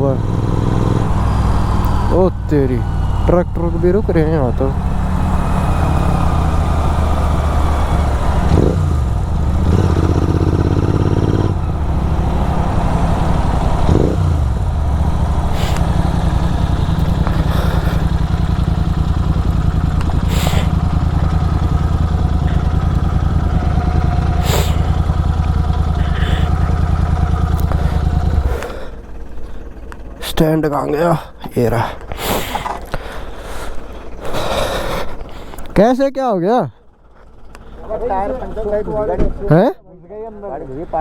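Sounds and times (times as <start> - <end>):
motorcycle engine droning: 0.0 - 41.0.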